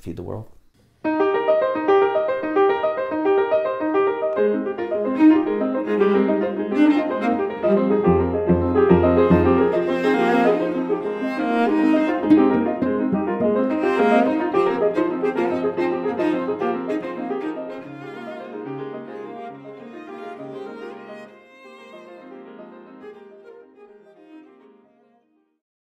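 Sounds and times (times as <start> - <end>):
piano: 1.0 - 25.3
bowed strings: 2.7 - 24.8.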